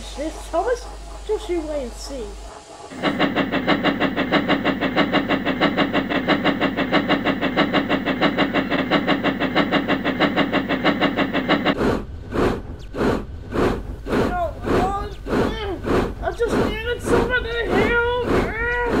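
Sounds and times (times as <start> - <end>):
steam locomotive chuffing: 0.0 - 19.0.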